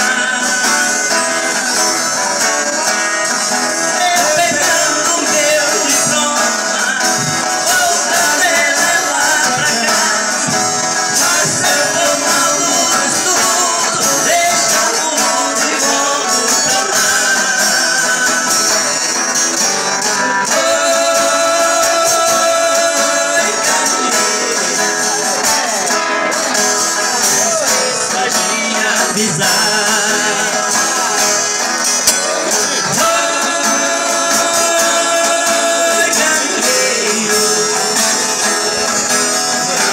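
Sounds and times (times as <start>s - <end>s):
acoustic guitars strummed: 0.0s - 39.9s
men singing: 0.0s - 39.9s.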